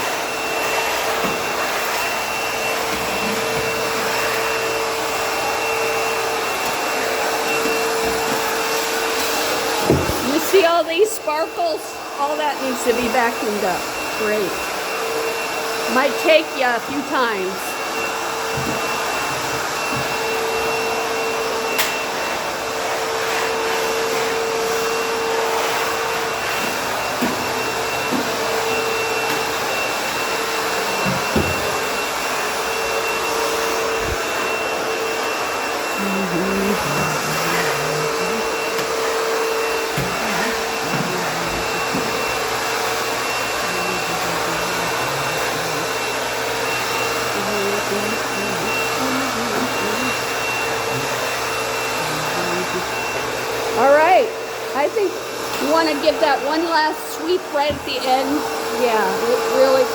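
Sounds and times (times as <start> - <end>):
backpack vacuum whining: 0.0 - 59.9.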